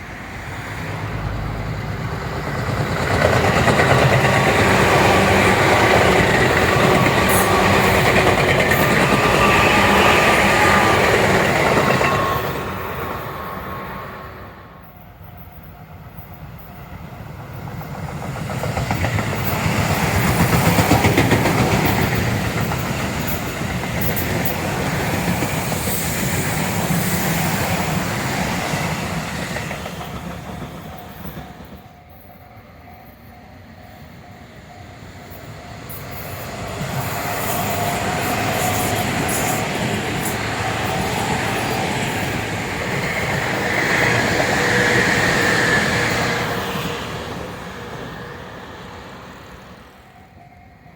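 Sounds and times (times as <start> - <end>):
steady train whine: 0.0 - 50.9
train passing: 0.0 - 50.9.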